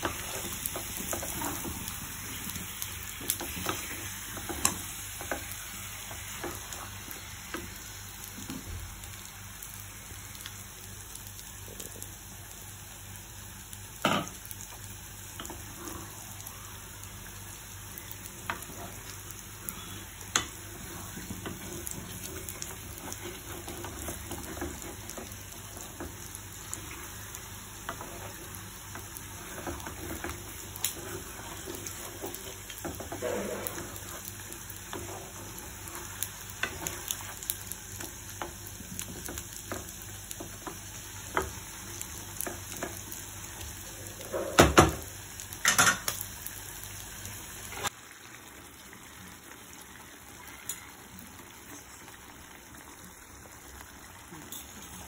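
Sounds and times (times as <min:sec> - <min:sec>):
curry sizzling in a pan: 0:00.0 - 0:55.0.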